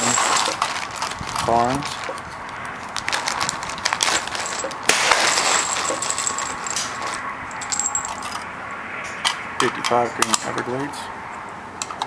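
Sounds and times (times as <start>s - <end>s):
metal cartridges clinking: 0.0s - 8.5s, 9.2s - 10.7s.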